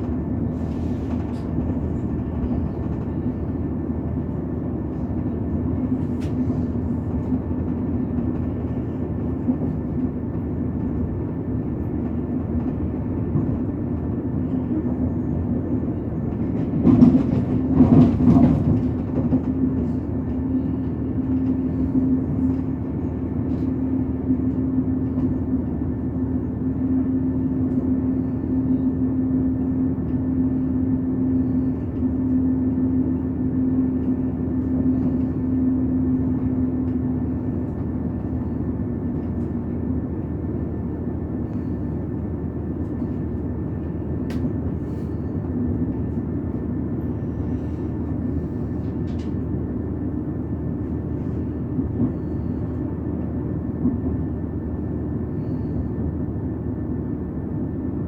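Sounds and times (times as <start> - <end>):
train rumbling on the line: 0.0 - 58.0.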